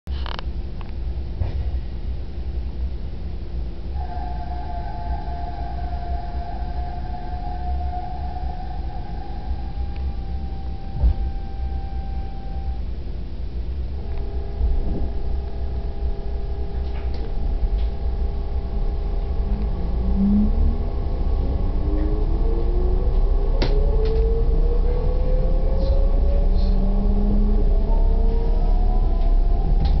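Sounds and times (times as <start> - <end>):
low steady train hum: 0.1 - 30.0
high electric whine: 3.9 - 30.0.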